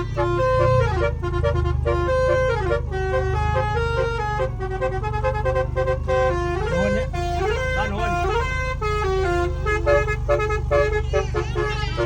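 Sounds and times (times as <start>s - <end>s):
buzzy horn melody: 0.0s - 12.0s.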